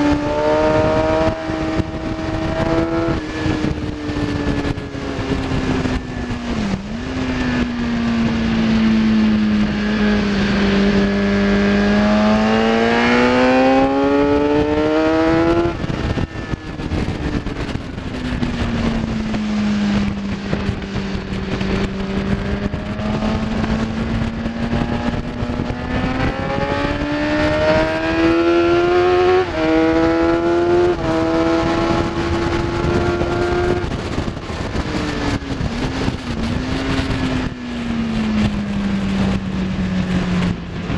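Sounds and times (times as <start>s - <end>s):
sportbike engine at high revs: 0.0s - 40.9s
wind on microphone: 0.0s - 40.9s.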